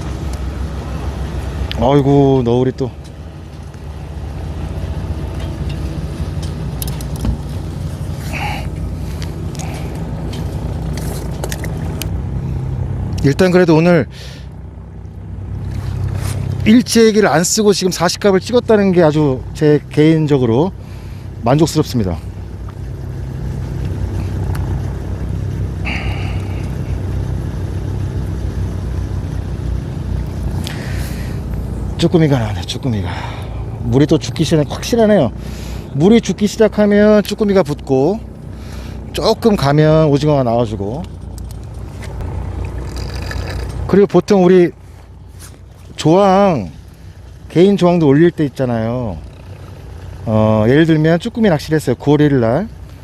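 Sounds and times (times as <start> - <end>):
boat engine humming: 0.0 - 53.0.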